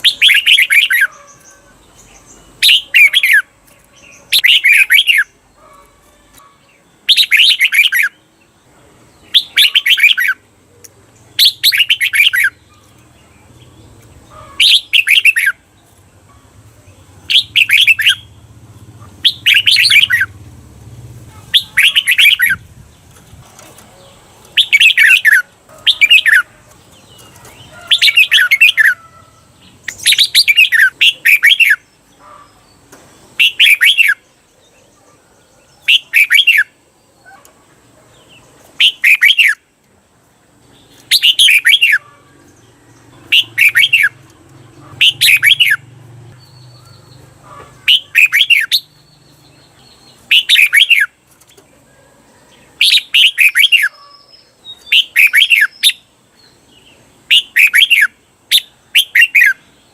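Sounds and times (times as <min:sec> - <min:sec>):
bird singing warbled phrases: 0:00.0 - 0:59.9.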